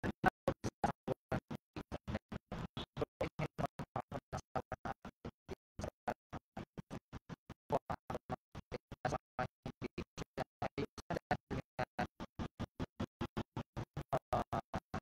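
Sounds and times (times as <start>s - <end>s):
choppy fragmented voice: 0.0s - 12.9s, 13.5s - 15.0s.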